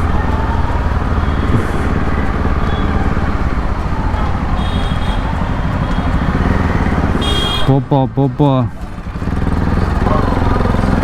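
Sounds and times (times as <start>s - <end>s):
motorcycle engine running: 0.0s - 7.7s, 8.8s - 11.0s.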